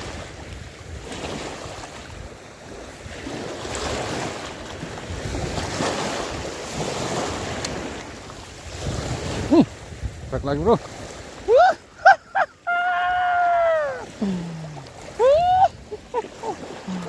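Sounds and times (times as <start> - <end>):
wind buffeting microphone: 0.0 - 12.0, 13.2 - 17.0
sea waves washing in: 0.0 - 17.0.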